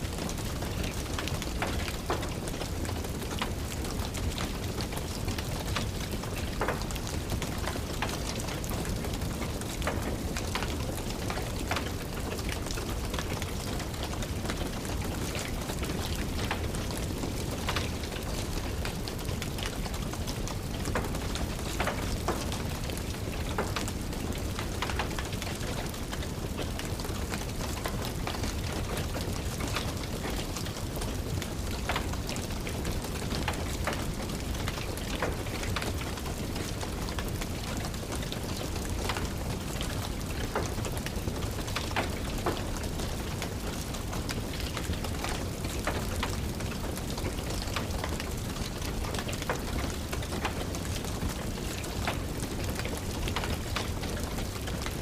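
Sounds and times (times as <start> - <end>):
rain tapping: 0.0 - 55.0
wood fire crackling: 0.0 - 55.0.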